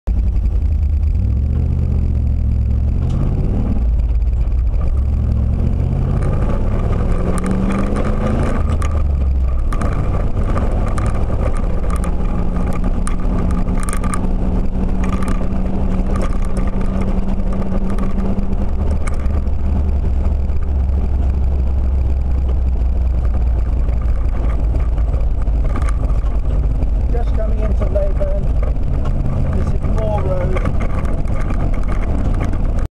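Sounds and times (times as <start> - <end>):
car engine accelerating: 0.1 - 32.9
road rumble: 0.1 - 32.9.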